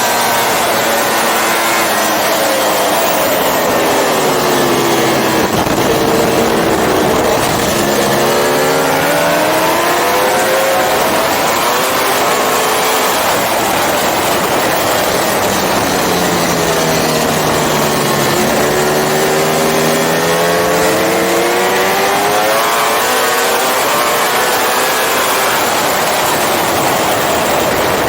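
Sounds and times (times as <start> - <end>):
motorcycle engine: 0.0 - 28.0
wind noise: 0.0 - 28.0.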